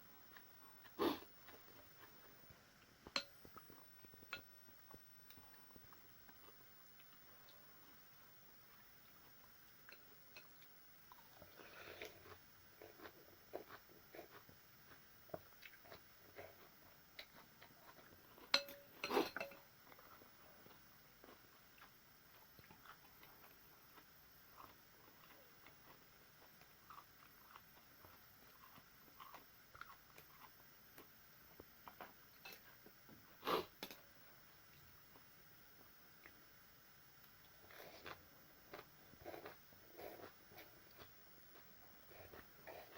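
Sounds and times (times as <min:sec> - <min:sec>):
chewing and crunching: 0:00.2 - 0:34.0, 0:37.2 - 0:42.9.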